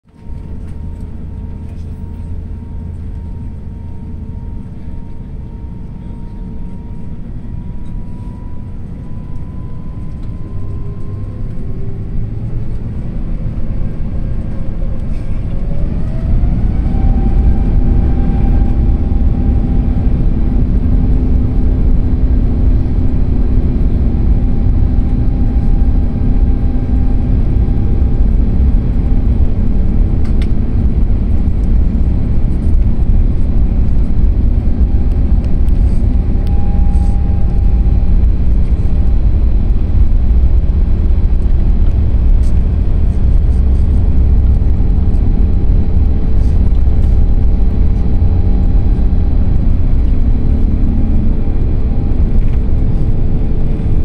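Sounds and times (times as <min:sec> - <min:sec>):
jet engines whining and rumbling: 0:00.0 - 0:54.0.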